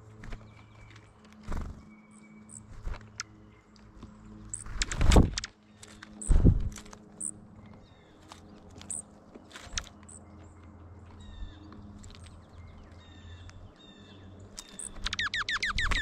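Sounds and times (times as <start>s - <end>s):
birds pecking clicks: 0.0s - 1.8s, 2.5s - 16.0s
faint low hum: 0.0s - 16.0s.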